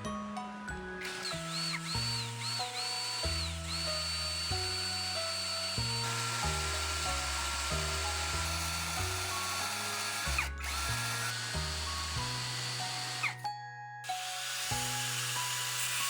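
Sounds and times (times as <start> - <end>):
power tool whining: 0.5 - 16.0.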